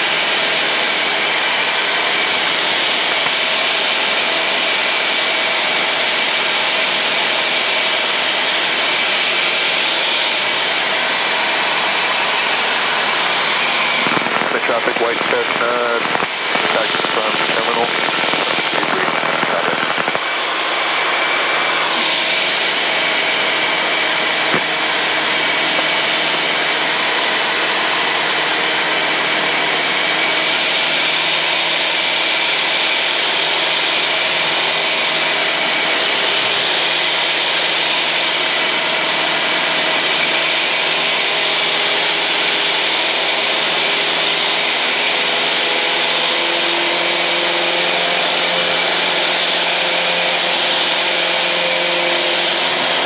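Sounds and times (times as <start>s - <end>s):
aircraft engine and propeller: 0.0s - 53.0s.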